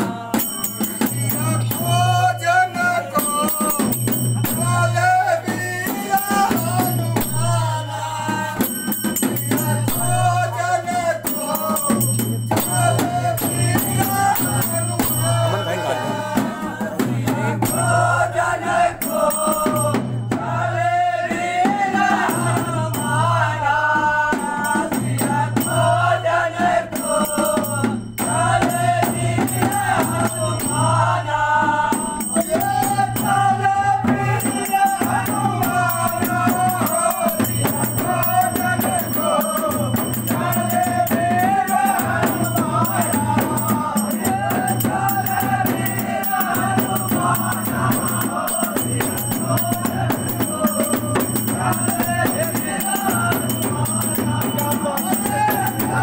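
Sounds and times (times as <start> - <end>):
dholak drum: 0.0 - 56.0
group of men singing: 0.0 - 56.0
high clicking percussion beat: 0.0 - 56.0.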